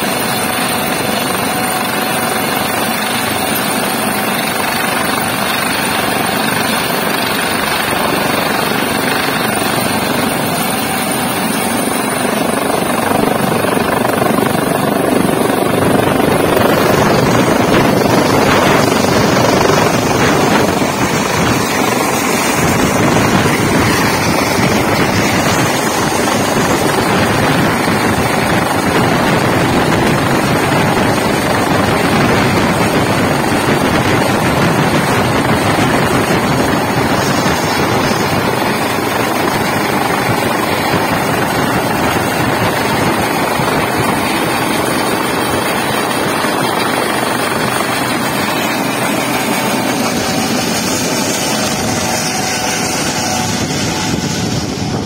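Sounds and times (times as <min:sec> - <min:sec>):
helicopter rotor noise: 0:00.0 - 0:55.0
turbine whine: 0:00.0 - 0:55.0.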